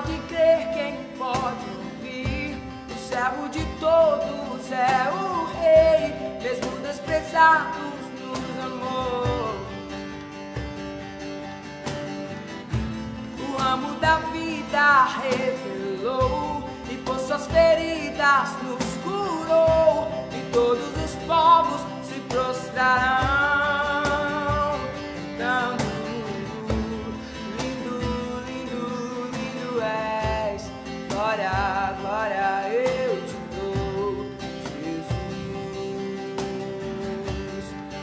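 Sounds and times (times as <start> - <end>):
man singing: 0.0 - 10.3, 13.2 - 38.0
cajon beat: 0.0 - 38.0
strummed acoustic guitar: 0.0 - 38.0.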